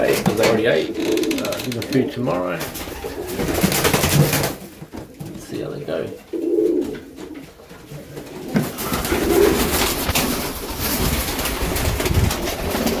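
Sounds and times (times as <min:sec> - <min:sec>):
pigeons cooing: 0:00.0 - 0:04.6, 0:05.6 - 0:13.0
dense rustling crackling: 0:00.0 - 0:13.0.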